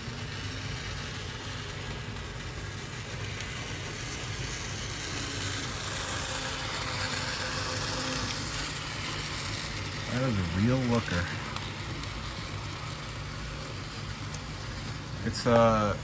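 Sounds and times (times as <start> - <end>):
model train motor whirring: 0.0 - 16.0
wheels on track: 0.0 - 16.0.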